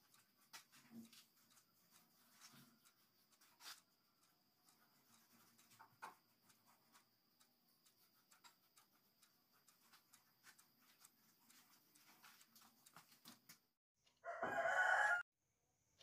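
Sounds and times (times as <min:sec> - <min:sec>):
soft ticks: 0:00.0 - 0:14.2.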